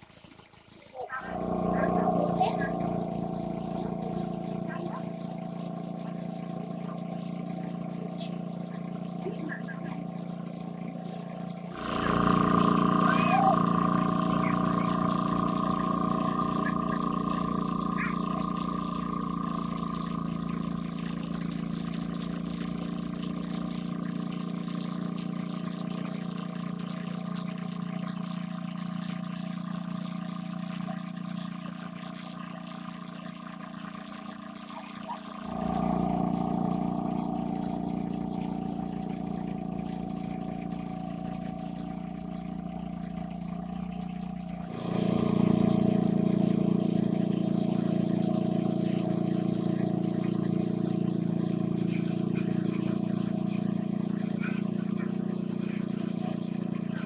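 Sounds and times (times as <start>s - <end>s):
motor running steadily: 0.0s - 57.0s
water pouring: 0.0s - 57.0s.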